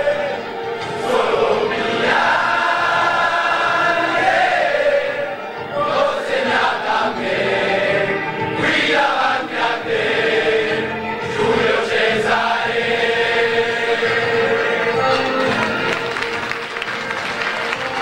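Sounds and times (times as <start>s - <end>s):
choir singing: 0.0s - 16.8s.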